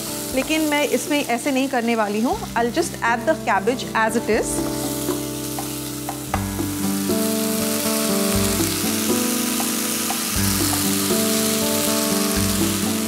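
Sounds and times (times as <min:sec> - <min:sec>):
background music of held chords: 0:00.0 - 0:01.3, 0:02.3 - 0:13.0
vegetables sizzling in oil: 0:00.0 - 0:13.0.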